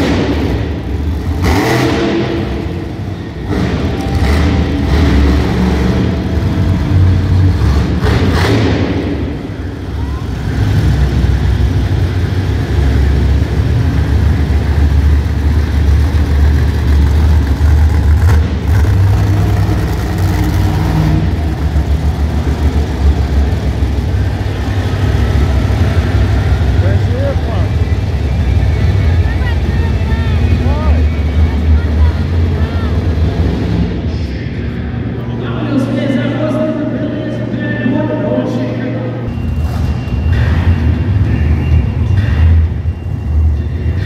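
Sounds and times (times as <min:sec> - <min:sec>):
truck engines revving: 0:00.0 - 0:44.0.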